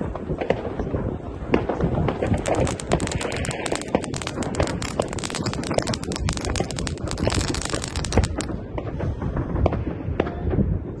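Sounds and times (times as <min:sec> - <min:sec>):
fireworks crackling and banging: 0:00.0 - 0:10.4
fireworks booms: 0:01.5 - 0:10.6.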